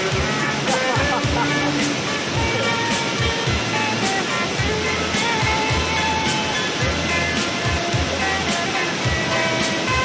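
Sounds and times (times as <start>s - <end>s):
background music with drum beats: 0.0s - 10.0s
waterfall rushing: 0.0s - 10.0s.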